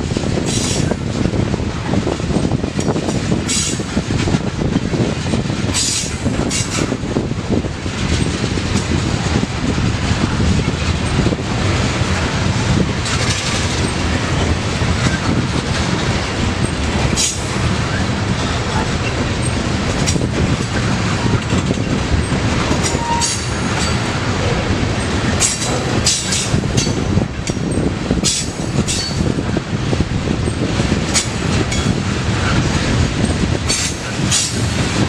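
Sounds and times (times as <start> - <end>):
clickety-clack of wheels: 0.0 - 35.0
train wheels rumbling on rail: 0.0 - 35.0.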